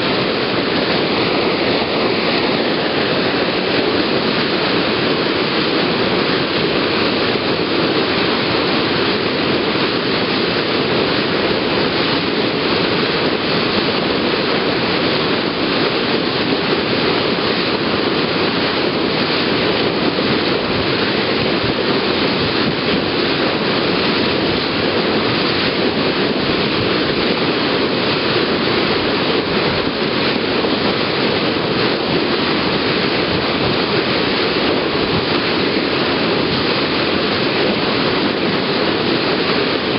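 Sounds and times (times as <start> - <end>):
water rushing along ferry hull: 0.0 - 39.9.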